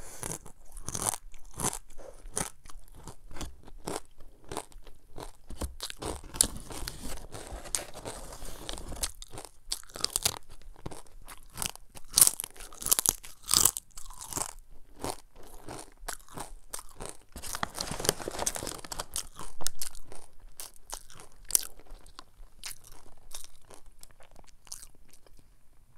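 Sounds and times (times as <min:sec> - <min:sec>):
chips crunching while chewed: 0:00.2 - 0:25.5.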